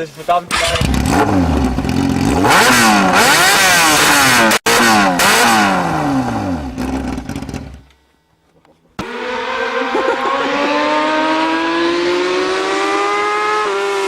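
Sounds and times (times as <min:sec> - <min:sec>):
motorcycle engine revving: 0:00.5 - 0:07.9, 0:09.0 - 0:14.0.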